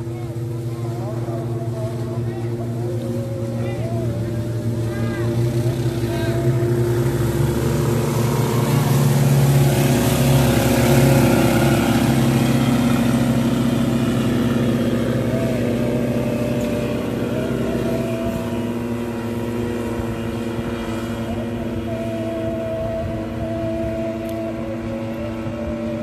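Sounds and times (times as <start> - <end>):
boat engine passing: 0.0 - 26.0
rushing water: 0.0 - 26.0.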